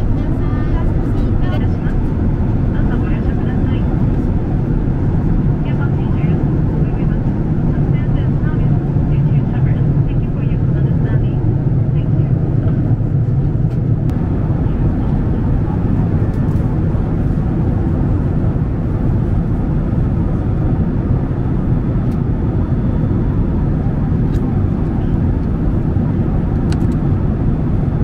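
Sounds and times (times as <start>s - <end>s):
airplane cabin engine noise: 0.0s - 28.0s.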